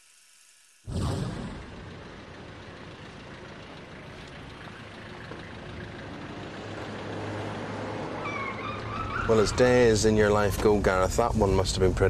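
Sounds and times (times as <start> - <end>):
low engine hum: 1.0 - 12.0
vehicles passing: 1.4 - 12.0.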